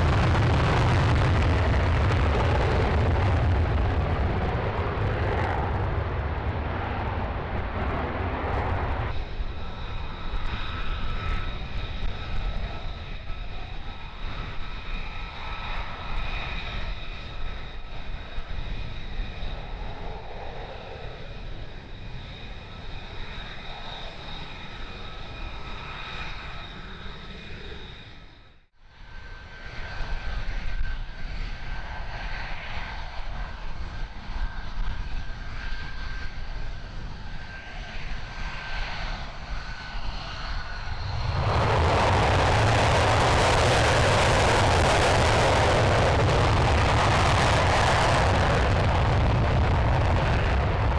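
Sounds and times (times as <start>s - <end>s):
jet engine whine: 0.0s - 50.9s
low jet rumble: 0.0s - 50.9s.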